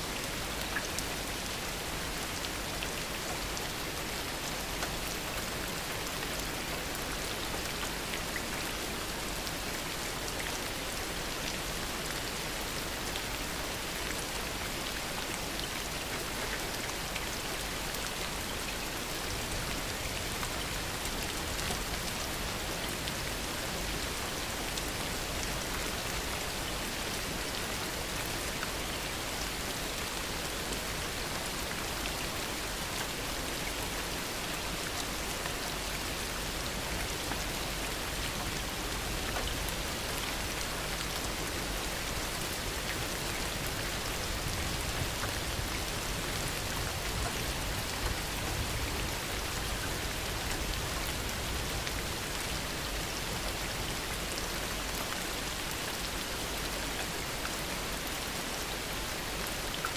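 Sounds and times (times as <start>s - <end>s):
heavy rain falling: 0.1s - 59.9s.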